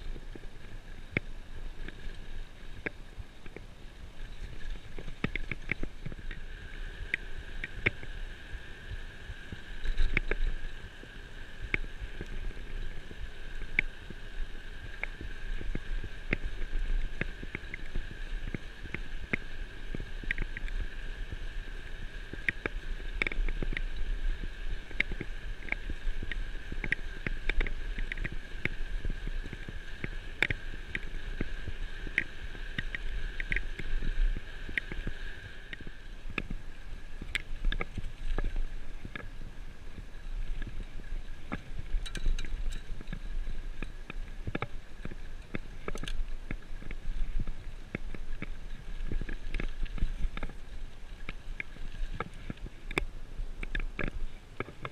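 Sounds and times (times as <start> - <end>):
wind: 0.0 - 54.9.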